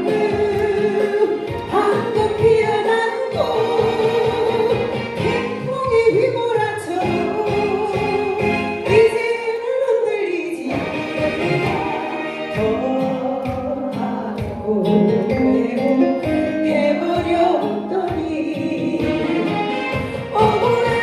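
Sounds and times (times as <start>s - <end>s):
backing track with steady beat: 0.0s - 9.6s, 10.6s - 21.0s
person singing: 0.0s - 21.0s.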